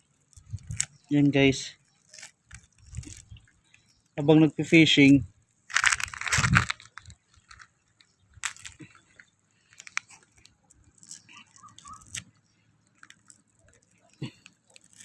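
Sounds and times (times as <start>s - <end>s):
mussel shells crunching and clicking: 0.0s - 1.1s, 1.8s - 4.2s, 5.6s - 15.0s.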